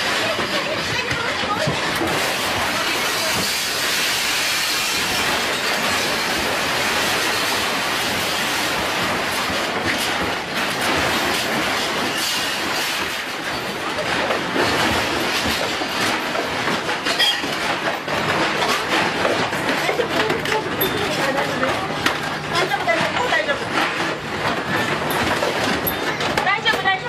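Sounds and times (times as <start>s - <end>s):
furniture and objects rattling: 0.0s - 27.0s.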